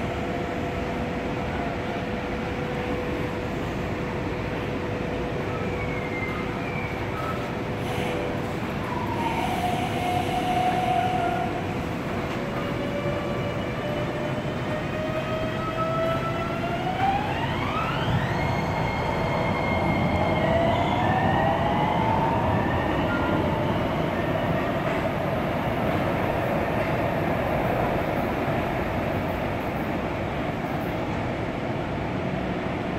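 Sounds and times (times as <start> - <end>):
train cars rumbling on rails: 0.0 - 32.9.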